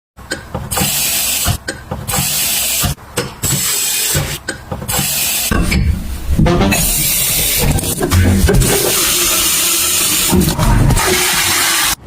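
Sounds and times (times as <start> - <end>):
pressure washer spraying water: 0.7 - 5.5, 6.8 - 12.0.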